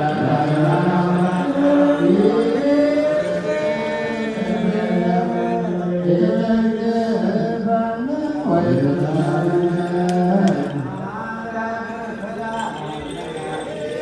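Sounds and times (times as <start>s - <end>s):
person chanting long held notes: 0.0s - 14.0s.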